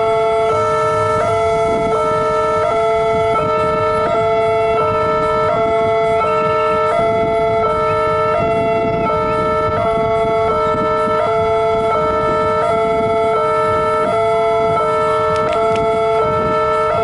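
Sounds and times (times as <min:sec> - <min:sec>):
motorcycle engines rumbling: 0:00.0 - 0:17.0
two-tone crossing alarm: 0:00.0 - 0:17.0.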